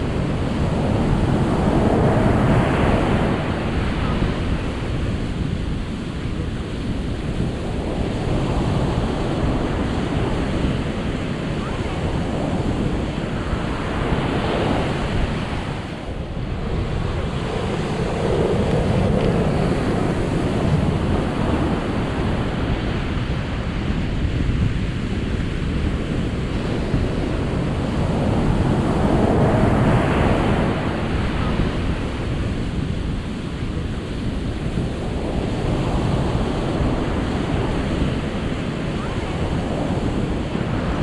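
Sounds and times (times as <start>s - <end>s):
ocean waves rushing: 0.0s - 41.0s.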